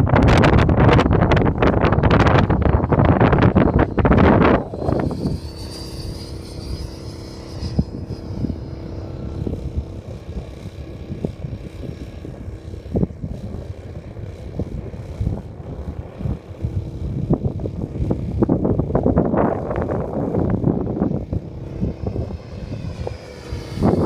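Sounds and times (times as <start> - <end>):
model airplane motor droning: 0.0 - 24.0
thin high whine: 0.0 - 24.0
wind buffeting microphone: 0.0 - 24.0.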